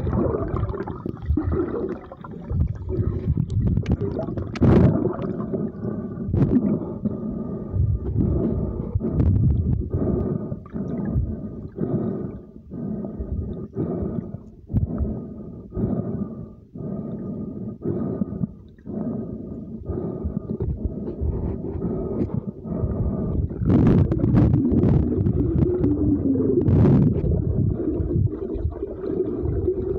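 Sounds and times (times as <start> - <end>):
underwater sloshing and rushing: 0.0 - 29.9.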